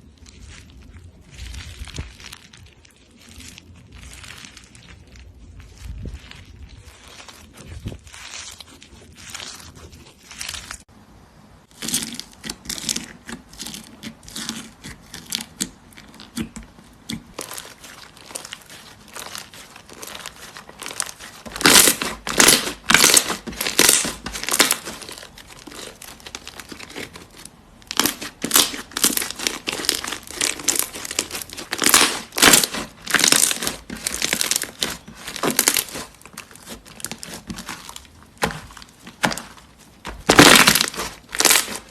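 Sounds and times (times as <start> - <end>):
crunchy slime crackling: 0.0 - 11.0, 11.6 - 41.9.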